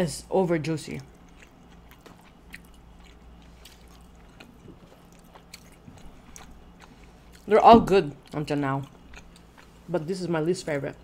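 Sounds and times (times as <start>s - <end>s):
close chewing of soft food: 0.9s - 10.1s.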